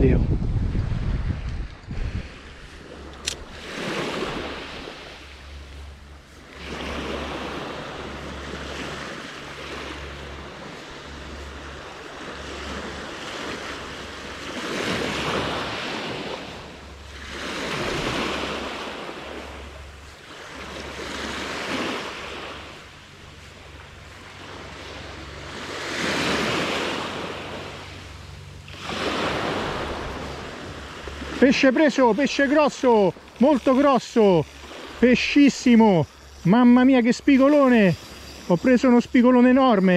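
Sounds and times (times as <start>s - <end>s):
small waves breaking on beach: 1.2s - 39.9s.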